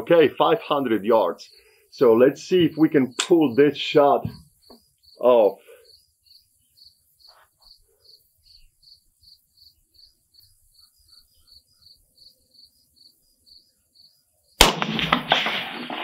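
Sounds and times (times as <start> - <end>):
crickets chirping: 0.2 - 14.6.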